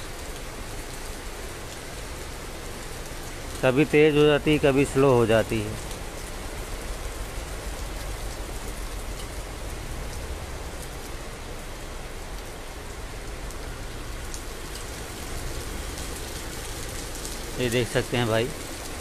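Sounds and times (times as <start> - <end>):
heavy rain on road: 0.0 - 19.0.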